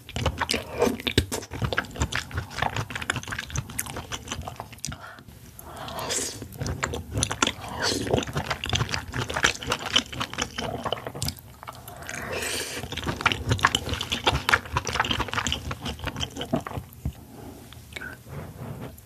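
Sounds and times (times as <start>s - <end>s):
wet slurping and chewing: 0.0s - 19.0s.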